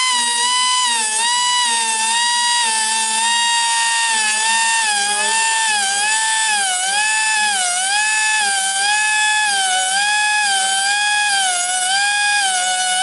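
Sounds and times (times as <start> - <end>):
rotary grinder sharpening a blade: 0.0 - 13.0.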